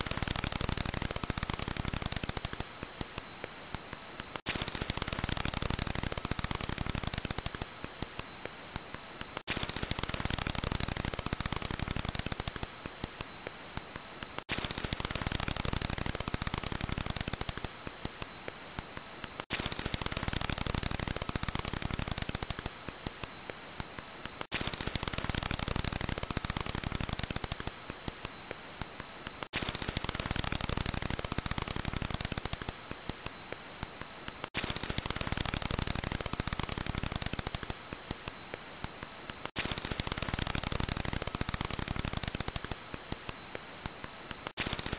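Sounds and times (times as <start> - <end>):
bat echolocation clicks: 0.0 - 44.9.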